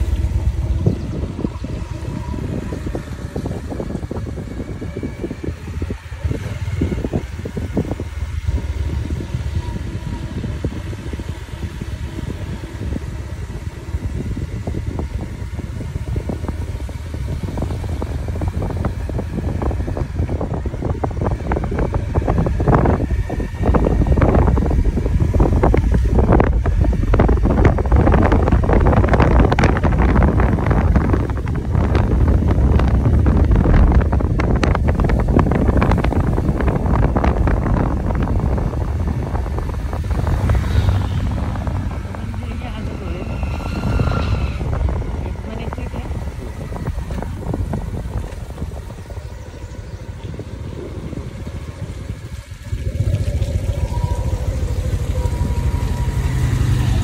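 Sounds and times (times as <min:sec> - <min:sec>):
motorcycle engine rumbling: 0:00.0 - 0:57.0
wind buffeting microphone: 0:00.0 - 0:57.0.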